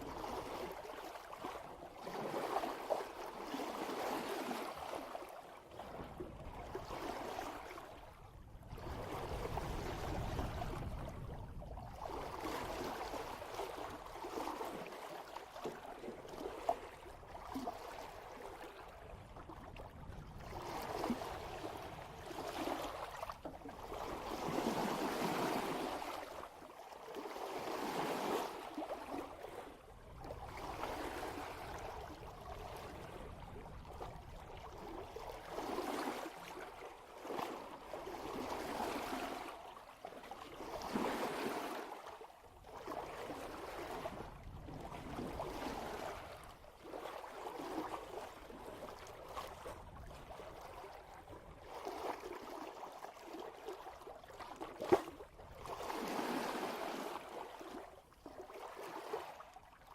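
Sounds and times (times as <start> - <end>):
water rushing and splashing at bow: 0.0 - 59.8.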